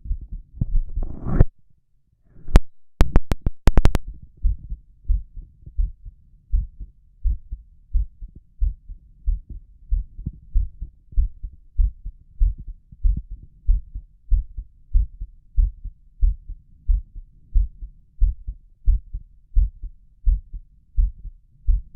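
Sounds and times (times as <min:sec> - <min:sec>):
heartbeat through stethoscope: 0:00.0 - 0:01.5, 0:02.4 - 0:21.9.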